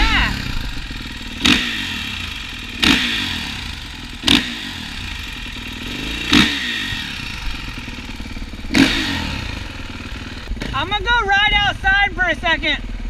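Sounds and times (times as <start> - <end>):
dirt bike engine idling and revving: 0.0 - 13.0.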